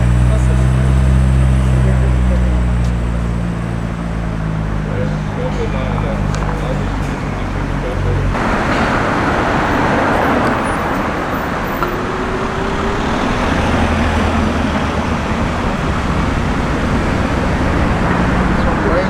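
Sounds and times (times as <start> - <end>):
engine humming close by: 0.0 - 19.0
road noise from passing cars: 0.0 - 19.0.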